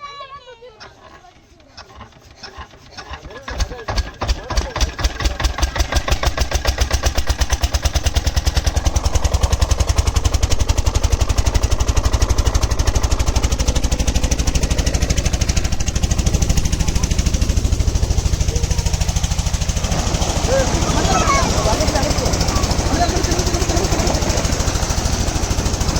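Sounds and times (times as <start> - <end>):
diesel engine chugging: 0.0 - 25.9.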